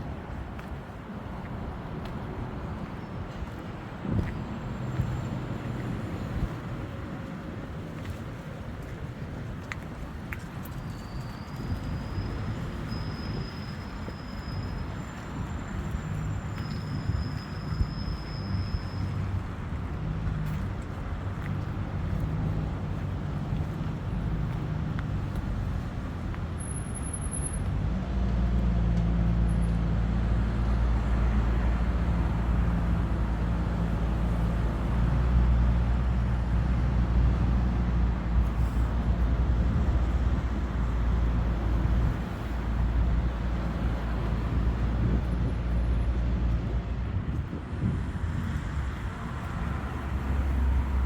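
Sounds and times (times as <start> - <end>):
street traffic: 0.0 - 51.0.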